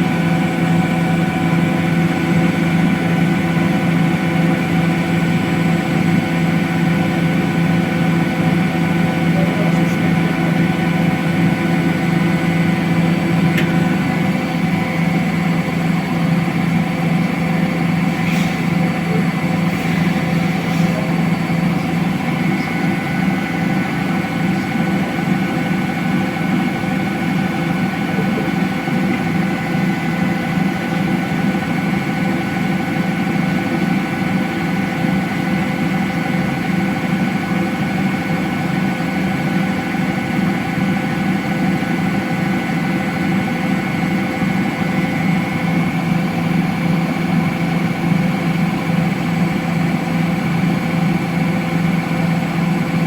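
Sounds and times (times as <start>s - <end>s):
washing machine spinning hum: 0.0s - 53.0s.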